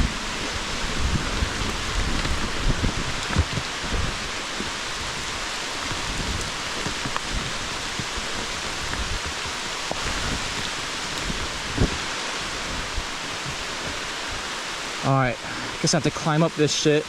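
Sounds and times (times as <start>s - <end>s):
low thumps and rumbles: 0.0s - 14.6s
pouring rain hiss: 0.0s - 17.0s.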